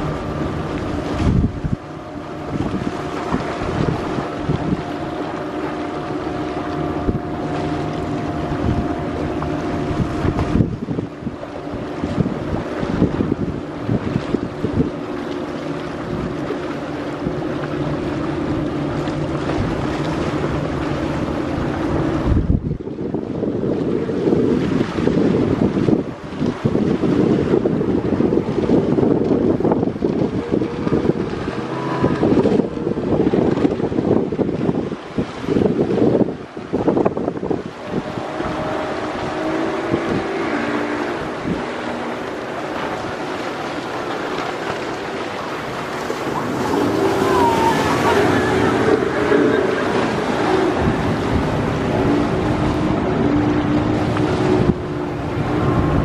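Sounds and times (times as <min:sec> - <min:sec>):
engine drone: 0:00.0 - 0:56.0
wind buffeting microphone: 0:00.0 - 0:56.0.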